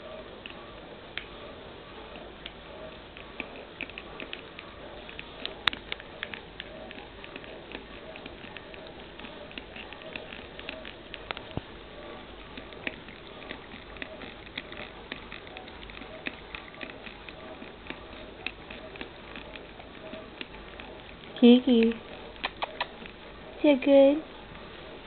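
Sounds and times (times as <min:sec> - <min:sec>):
cat lapping water: 0:02.2 - 0:23.3.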